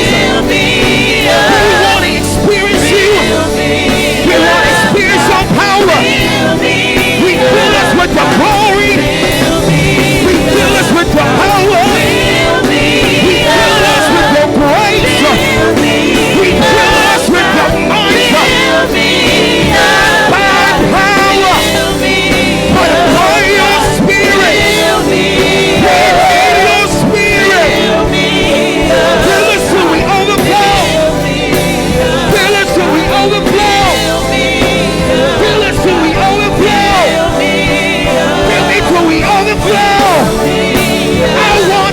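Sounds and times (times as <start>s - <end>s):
gospel band with singers: 0.0s - 41.9s.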